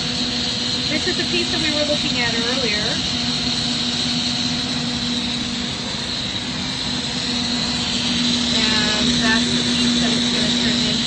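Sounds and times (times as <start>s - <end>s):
machinery humming: 0.0s - 11.0s
torches hissing: 0.0s - 11.0s.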